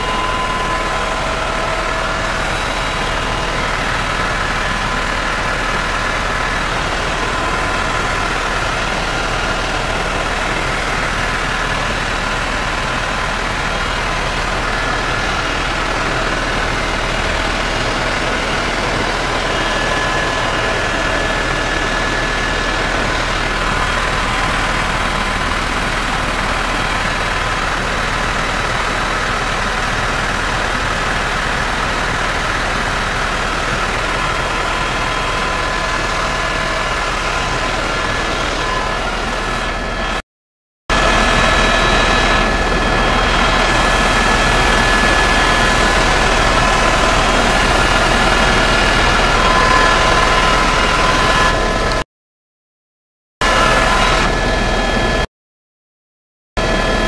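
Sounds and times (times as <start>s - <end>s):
mechanical drone with high tones: 0.0s - 40.2s, 40.9s - 52.0s, 53.4s - 55.2s.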